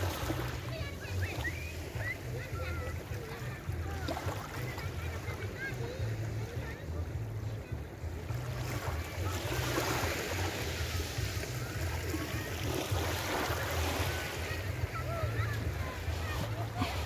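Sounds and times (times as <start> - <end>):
waves lapping on sand: 0.0 - 17.0.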